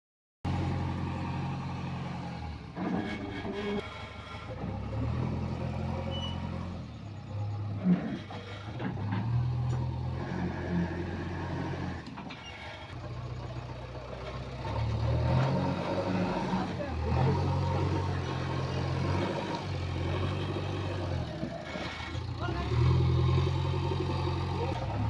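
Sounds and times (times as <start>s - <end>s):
diesel machinery engine running: 0.5s - 25.0s.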